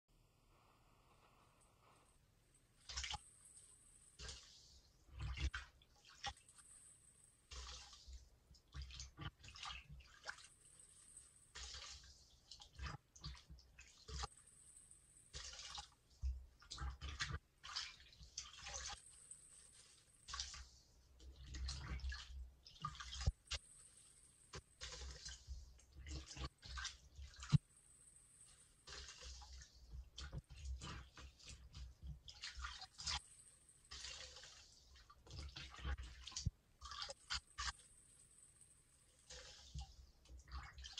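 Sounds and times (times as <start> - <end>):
sponge squelching in water: 2.6 - 40.9
water dripping: 2.7 - 40.9.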